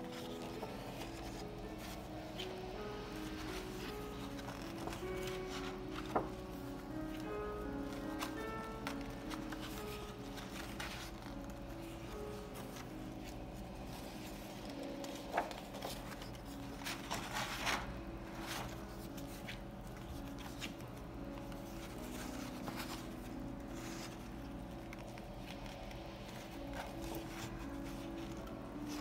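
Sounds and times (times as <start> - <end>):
paper pages crackling and rustling: 0.0 - 29.0
soft background music: 0.0 - 29.0.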